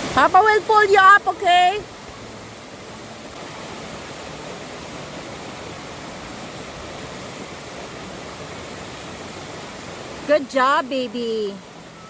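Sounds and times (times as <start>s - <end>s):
waterfall pouring over rock: 0.0s - 12.0s.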